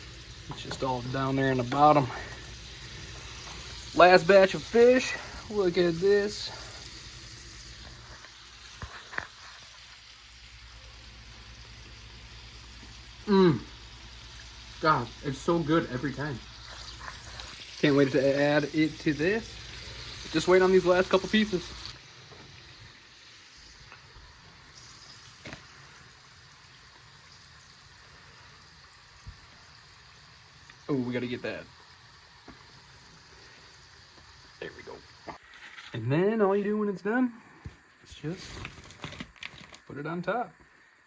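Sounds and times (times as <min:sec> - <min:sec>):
fish fillets frying in oil: 0:00.0 - 0:35.4
faint bubbling of cooking: 0:00.0 - 0:35.7.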